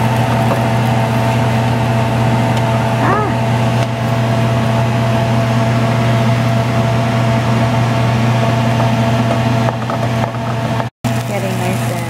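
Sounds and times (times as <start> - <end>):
electric motor hum: 0.0 - 12.0.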